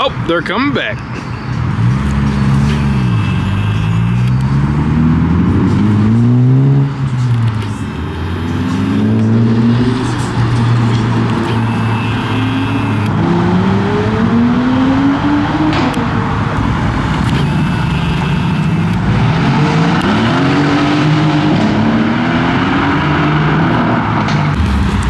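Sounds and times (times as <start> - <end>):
car engines accelerating past: 1.6 - 3.3, 4.0 - 25.0.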